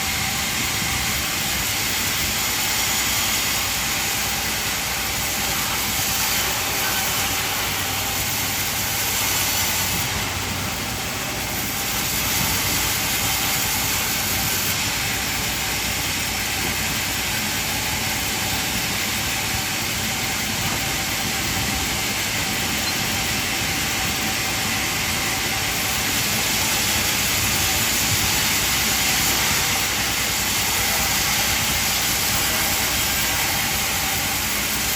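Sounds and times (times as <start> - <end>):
band saw running: 0.0 - 34.9.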